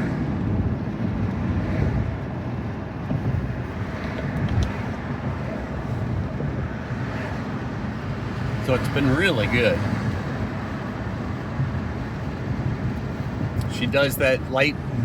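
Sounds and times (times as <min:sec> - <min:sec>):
road and tyre noise in car: 0:00.0 - 0:15.0.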